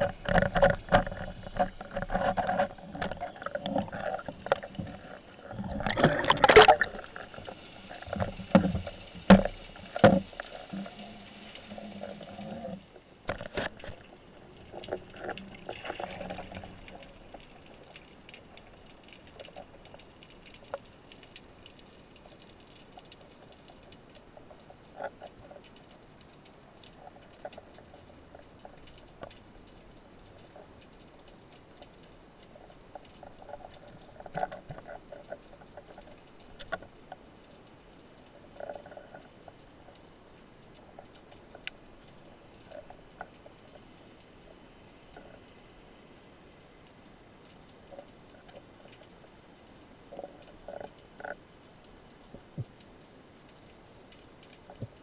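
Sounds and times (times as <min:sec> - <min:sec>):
low underwater hiss: 0:00.0 - 0:55.0
underwater clicks and crackling: 0:00.0 - 0:55.0.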